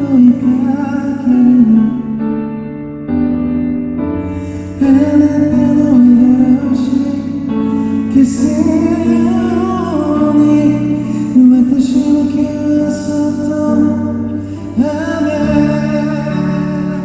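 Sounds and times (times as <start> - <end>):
man singing a ballad: 0.0 - 2.8, 4.2 - 17.0
sustained keyboard chords: 0.0 - 17.0.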